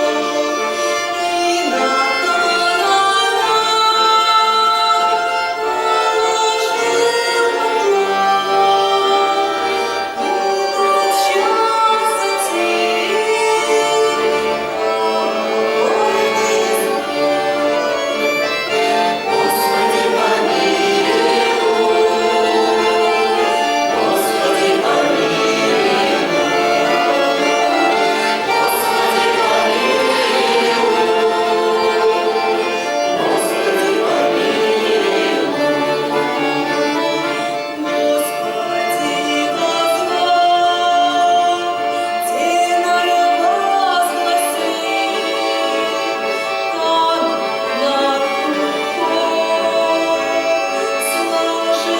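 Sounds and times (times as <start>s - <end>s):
accordion playing chords and melody: 0.0s - 51.9s.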